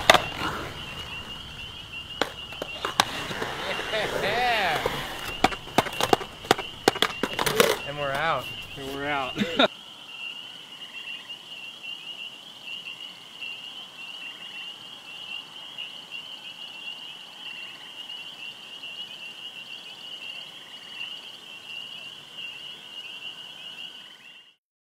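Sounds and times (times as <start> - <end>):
faint pulsed insect calls: 0.0 - 24.6
insects trilling: 0.0 - 24.6.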